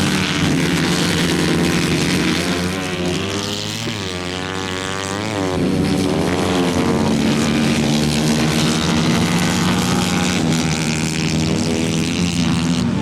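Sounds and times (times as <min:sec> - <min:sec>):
racing engine at high revs: 0:00.0 - 0:13.0.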